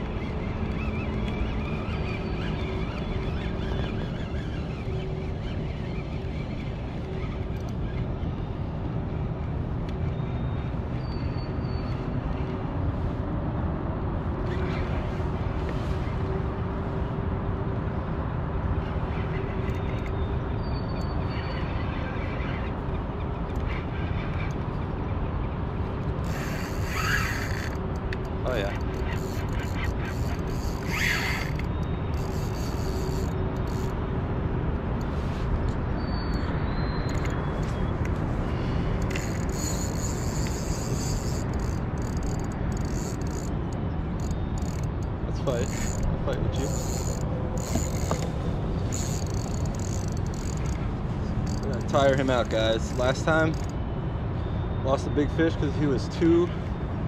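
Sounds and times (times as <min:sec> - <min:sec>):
wind rumbling on microphone: 0:00.0 - 0:54.9.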